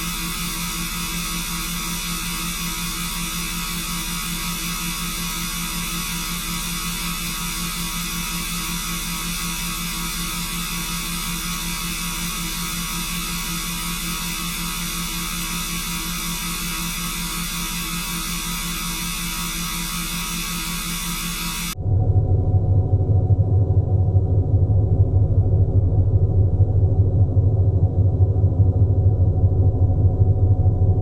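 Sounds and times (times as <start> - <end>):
steady electronic hum: 0.0 - 31.0.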